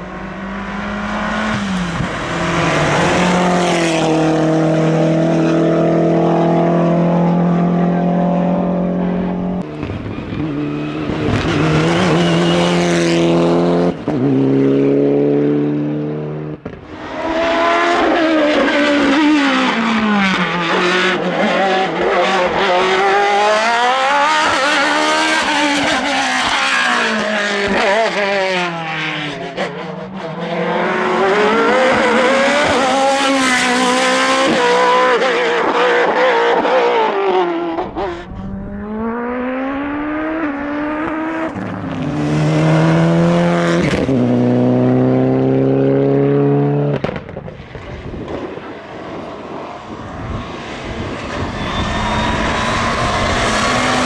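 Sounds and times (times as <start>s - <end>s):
racing car engine at high revs: 0.0s - 54.0s.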